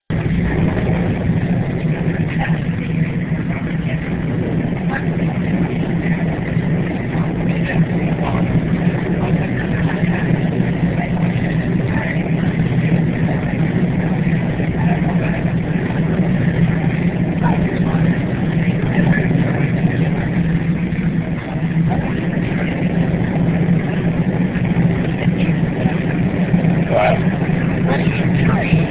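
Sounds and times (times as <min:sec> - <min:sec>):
train running rumble: 0:00.0 - 0:28.9.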